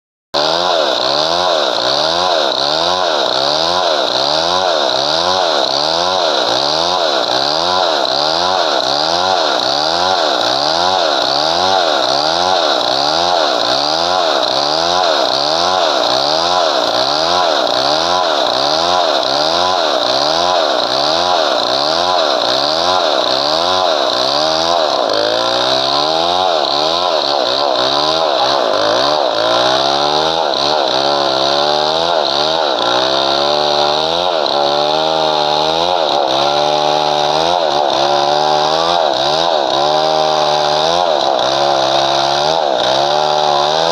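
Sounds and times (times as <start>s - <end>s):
chainsaw cutting wood: 0.4s - 43.9s.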